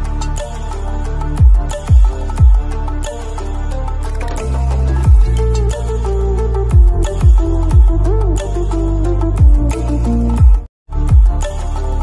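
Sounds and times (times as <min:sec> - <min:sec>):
synth background music: 0:00.0 - 0:12.0.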